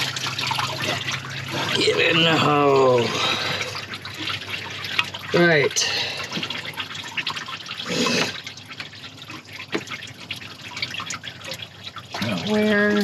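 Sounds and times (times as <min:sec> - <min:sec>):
liquid dripping into a bowl: 0:00.0 - 0:13.0.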